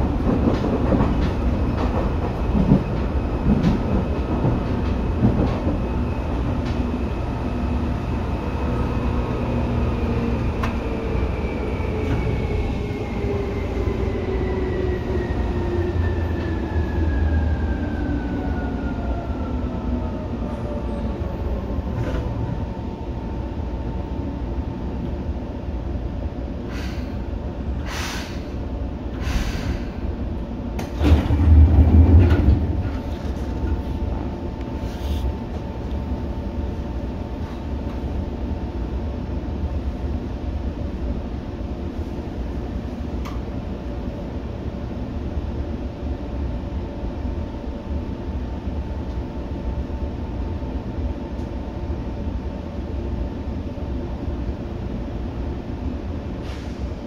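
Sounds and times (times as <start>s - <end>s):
train wheel and motor rumble: 0.0s - 57.0s.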